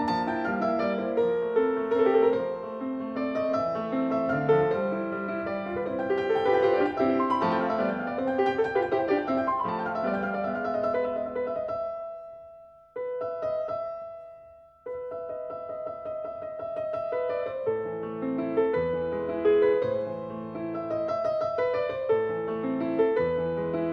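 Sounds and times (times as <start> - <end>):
piano music: 0.0 - 23.9.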